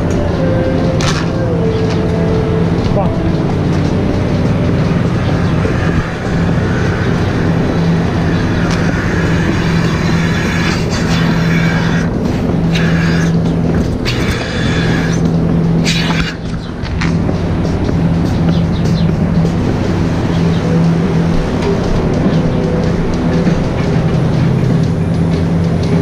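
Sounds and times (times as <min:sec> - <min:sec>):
milking machine hum: 0:00.0 - 0:26.0
milking units clicking and knocking: 0:02.8 - 0:26.0.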